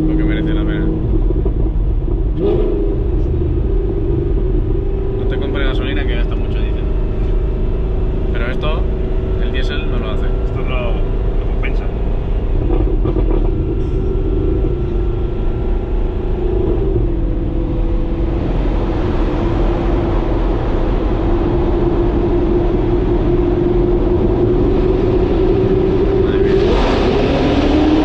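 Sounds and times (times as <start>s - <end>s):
car engine driven hard: 0.0s - 28.0s
road and wind noise: 0.0s - 28.0s.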